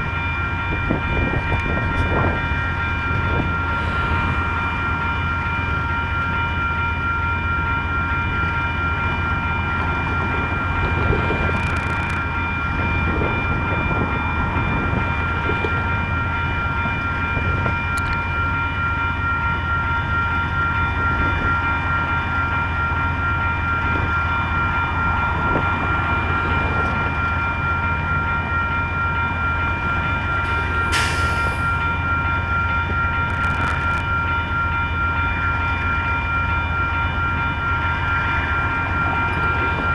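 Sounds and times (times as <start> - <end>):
diesel locomotive humming: 0.0 - 39.9.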